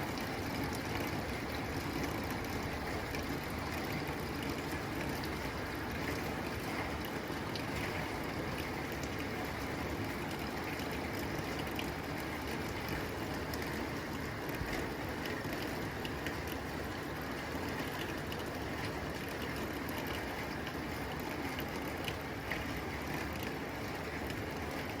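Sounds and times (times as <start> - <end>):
rain on a tin roof: 0.0 - 25.0.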